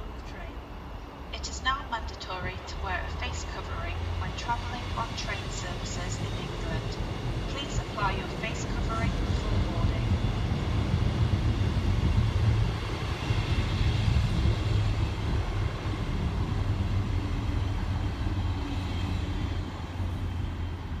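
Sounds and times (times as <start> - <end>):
diesel locomotive engines droning: 0.0 - 21.0.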